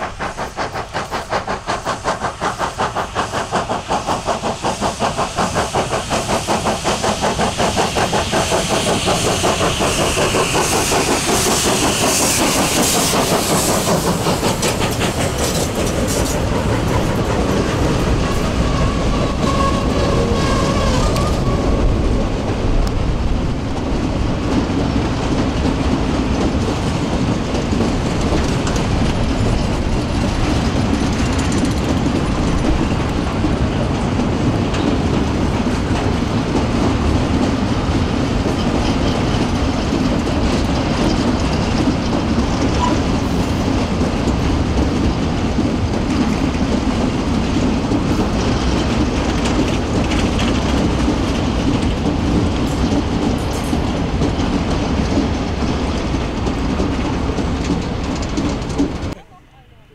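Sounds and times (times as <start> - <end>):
train wheels rumbling and clattering: 0.0 - 59.3.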